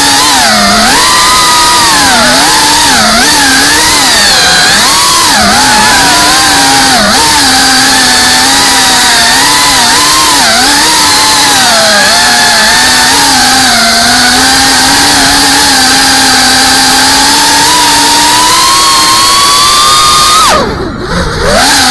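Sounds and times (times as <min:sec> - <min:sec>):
drone propellers whining: 0:00.0 - 0:21.9.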